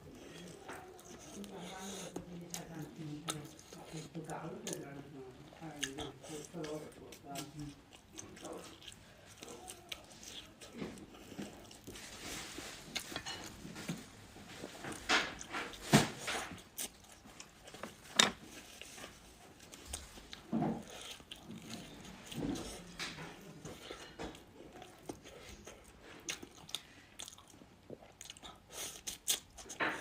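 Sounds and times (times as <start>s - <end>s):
person chewing noodles: 0.0s - 4.3s, 5.3s - 12.0s, 15.4s - 30.0s.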